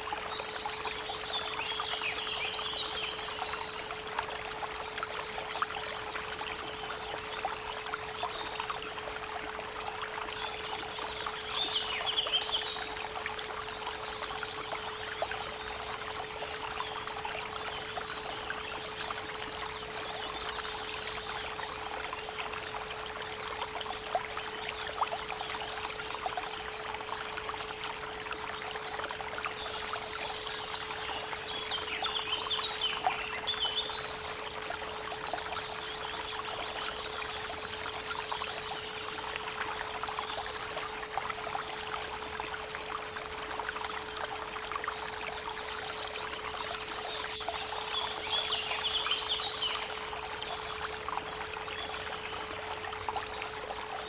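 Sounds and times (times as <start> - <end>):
creek water babbling: 0.0 - 54.0.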